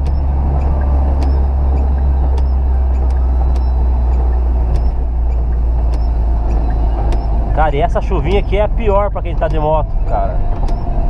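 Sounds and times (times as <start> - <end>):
light ticks: 0.0 - 10.9
car engine drone: 0.0 - 11.0
tyres on wet road: 0.0 - 11.0.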